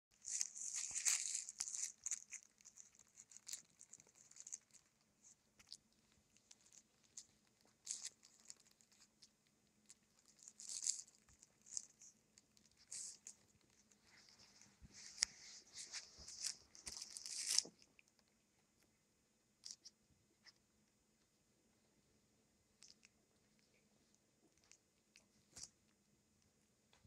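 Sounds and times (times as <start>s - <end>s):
faint rustling and crackling: 0.1s - 19.0s, 22.8s - 27.0s
faint steady hum: 0.1s - 27.0s.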